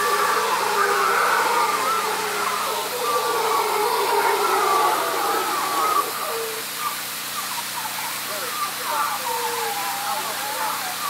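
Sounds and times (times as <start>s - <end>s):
howler monkeys howling: 0.0s - 11.0s.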